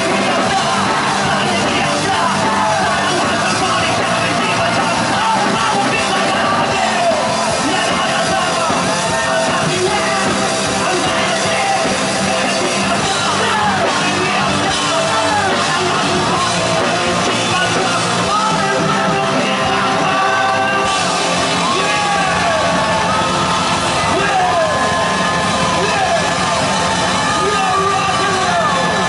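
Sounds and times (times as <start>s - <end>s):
man singing into microphone: 0.0s - 23.2s, 24.0s - 25.0s
electric guitar: 0.0s - 29.0s.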